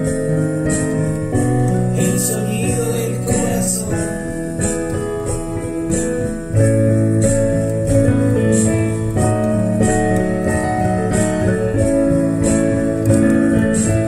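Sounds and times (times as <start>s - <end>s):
held keyboard chords: 0.0s - 14.0s
light high percussion beat: 0.0s - 14.0s.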